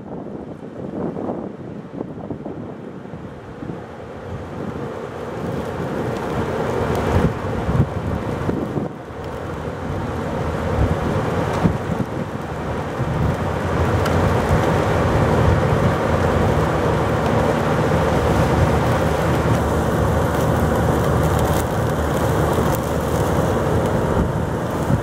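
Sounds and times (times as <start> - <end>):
driving rain: 0.0 - 25.0
wind buffeting microphone: 0.0 - 25.0.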